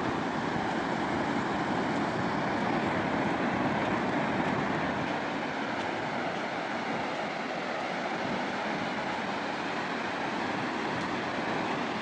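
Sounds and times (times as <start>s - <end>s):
ocean waves breaking on beach: 0.0s - 12.0s.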